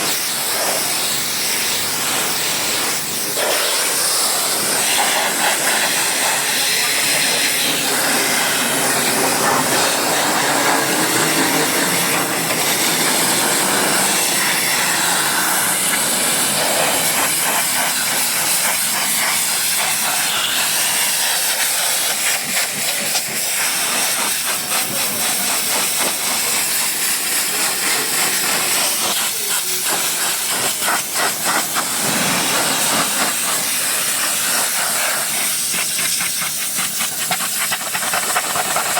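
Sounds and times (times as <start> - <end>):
pressure washer spray hissing: 0.0 - 38.9.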